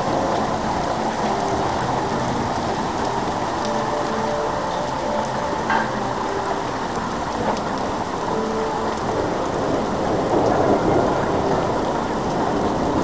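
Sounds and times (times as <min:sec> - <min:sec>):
steady rain falling: 0:00.0 - 0:13.0
thunder rumbling: 0:00.0 - 0:13.0.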